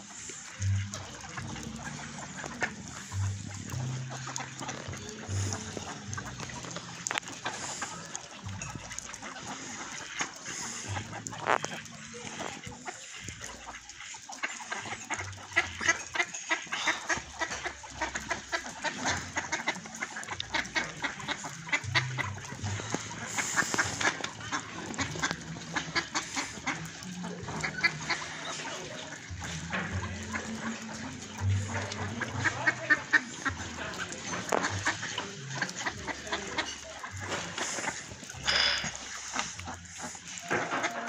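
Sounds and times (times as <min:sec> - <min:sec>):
ducks quacking: 0:00.0 - 0:41.0.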